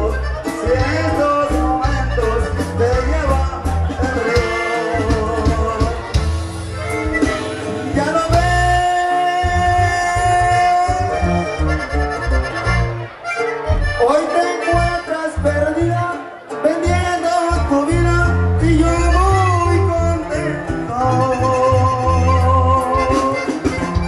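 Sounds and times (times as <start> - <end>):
bouncing bass line: 0.0 - 16.1, 16.9 - 24.0
live dance band playing: 0.0 - 24.0.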